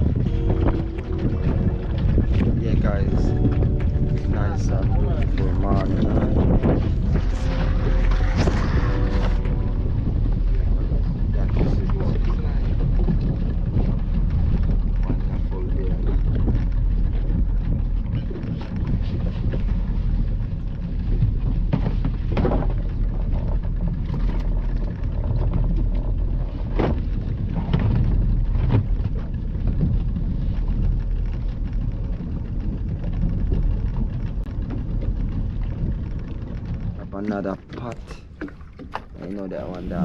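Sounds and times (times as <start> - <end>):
fishing boat engine rumble: 0.0 - 40.0.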